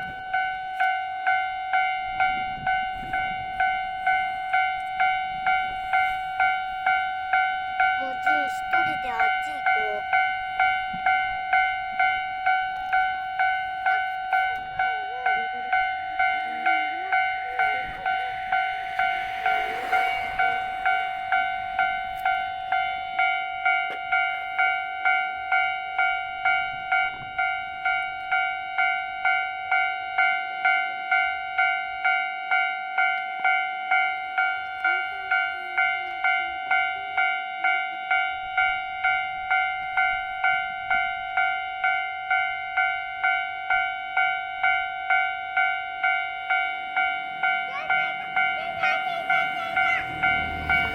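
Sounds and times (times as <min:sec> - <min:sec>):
railcar rushing past: 0:00.0 - 0:32.1, 0:32.9 - 0:50.9
level-crossing warning bell: 0:00.0 - 0:50.9.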